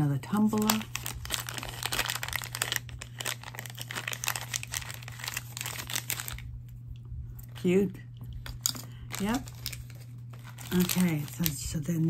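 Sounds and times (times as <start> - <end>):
plastic packaging crinkling: 0.3 - 6.5, 8.4 - 11.9.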